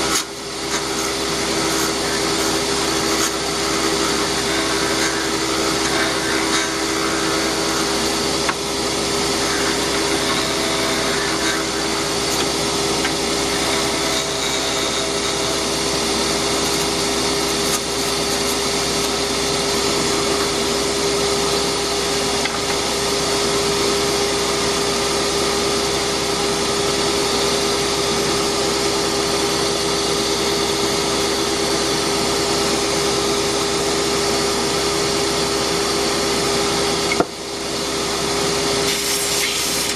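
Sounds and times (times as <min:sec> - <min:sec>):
wood lathe running: 0:00.0 - 0:39.9.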